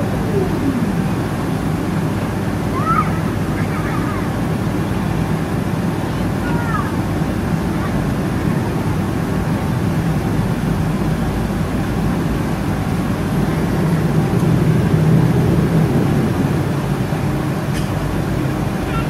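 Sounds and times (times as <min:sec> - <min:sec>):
airliner engine rumble: 0:00.0 - 0:19.0.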